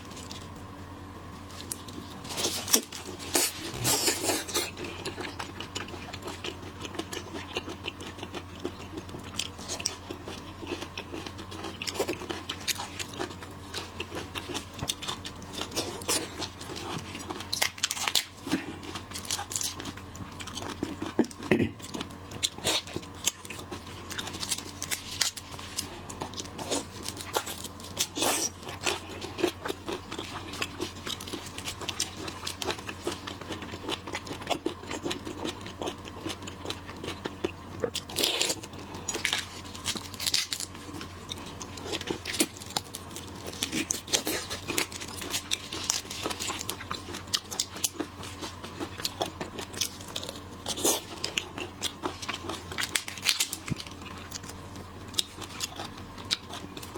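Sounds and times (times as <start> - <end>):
biting and chewing: 1.4 - 56.9.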